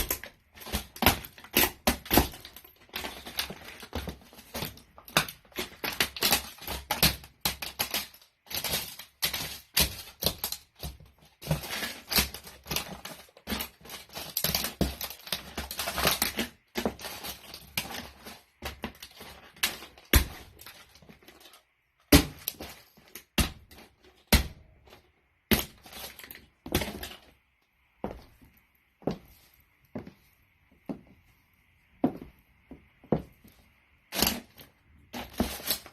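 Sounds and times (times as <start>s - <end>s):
toy car cracking under boots: 0.0s - 27.3s, 34.1s - 35.9s.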